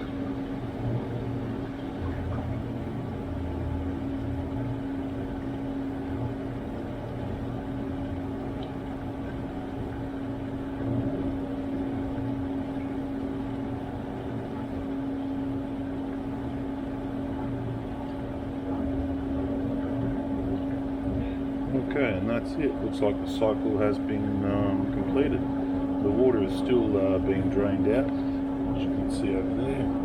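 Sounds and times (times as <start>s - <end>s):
dishwasher motor hum: 0.0s - 30.0s.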